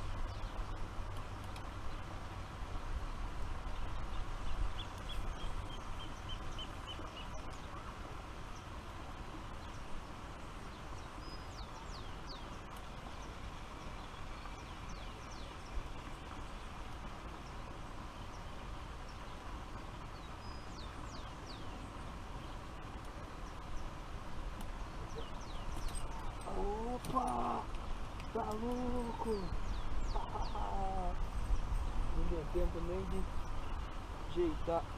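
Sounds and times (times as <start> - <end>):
birds calling: 0.0 - 34.9.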